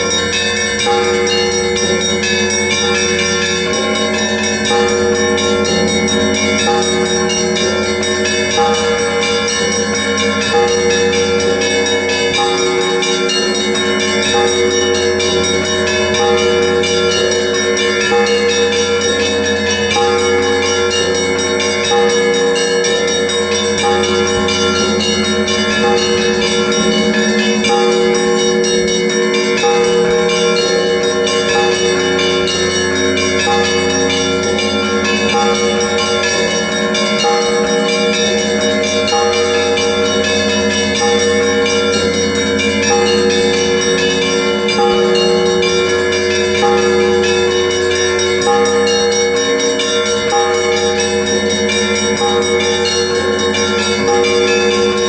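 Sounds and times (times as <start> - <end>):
hum of large bells: 0.0 - 55.0
small bells struck: 0.0 - 55.0.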